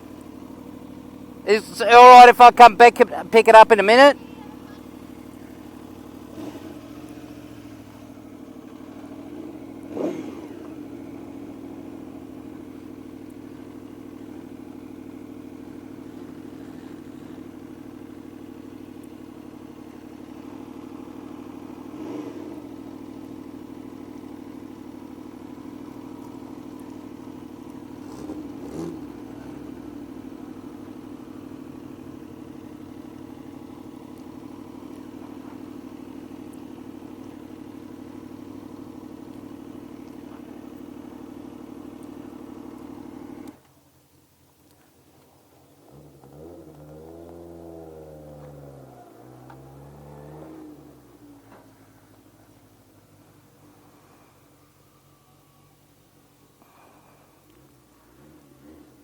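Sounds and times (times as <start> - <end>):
motorcycle engine running: 0.0 - 55.1, 55.7 - 59.0.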